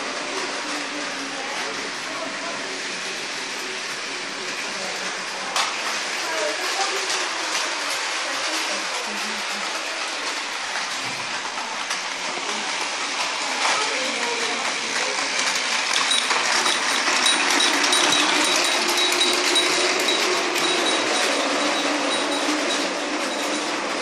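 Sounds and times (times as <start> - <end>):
toy trains whirring and rattling: 0.0 - 24.0.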